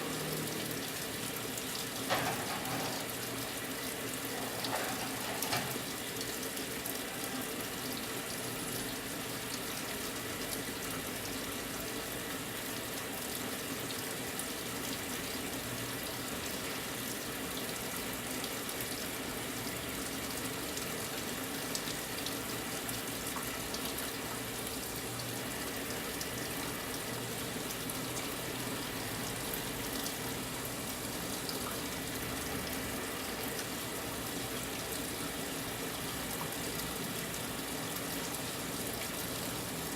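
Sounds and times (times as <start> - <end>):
washing machine filling with water: 0.0 - 39.9.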